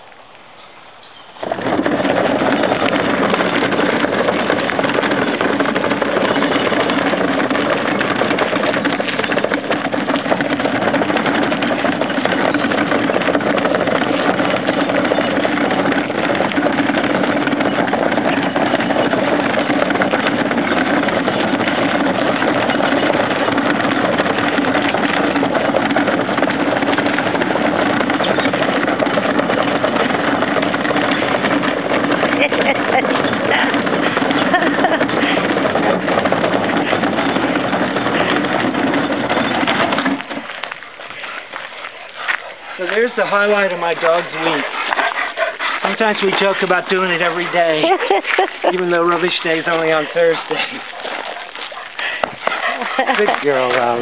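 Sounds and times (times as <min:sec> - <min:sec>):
wheelie bins rolling on gravel: 0:00.6 - 0:54.0.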